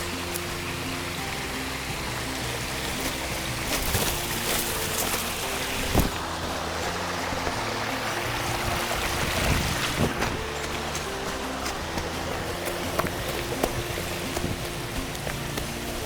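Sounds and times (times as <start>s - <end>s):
background music low notes: 0.0s - 16.0s
stream water rushing: 0.0s - 16.0s.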